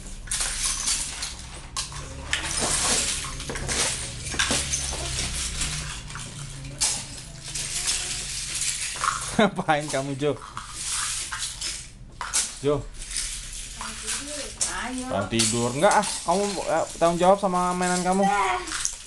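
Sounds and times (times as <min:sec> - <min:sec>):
plastic bricks clattering: 0:00.1 - 0:19.0.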